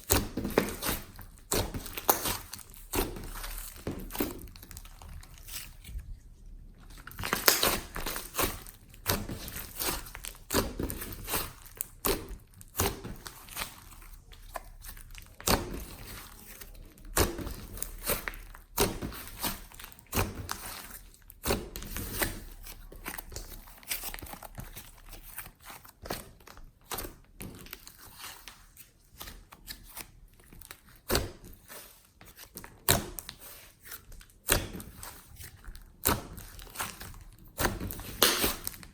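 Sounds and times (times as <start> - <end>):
slime squelching and popping: 0.0 - 38.9.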